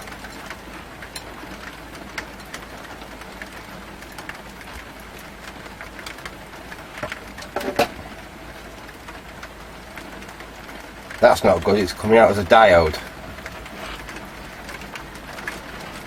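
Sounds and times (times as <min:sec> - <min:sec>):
drips ticking: 0:00.0 - 0:16.0
steady rain falling: 0:00.0 - 0:16.0.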